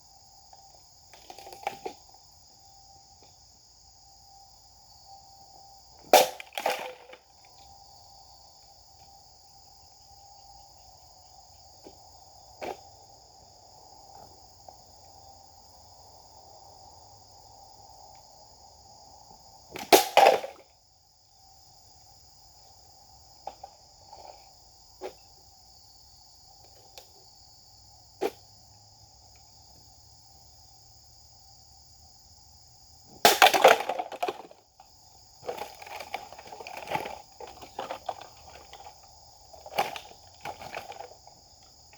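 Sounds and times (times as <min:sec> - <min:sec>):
insect chorus: 0:00.0 - 0:41.9.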